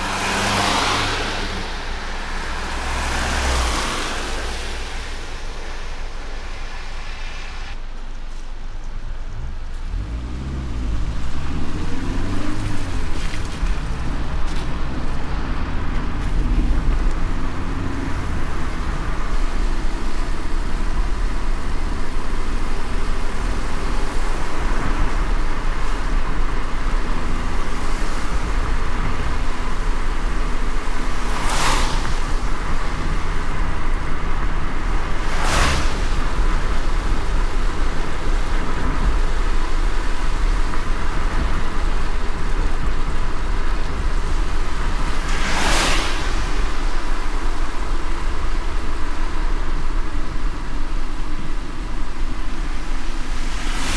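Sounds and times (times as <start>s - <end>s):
low road rumble: 0.0s - 53.9s
rain hiss on wet road: 0.0s - 53.9s.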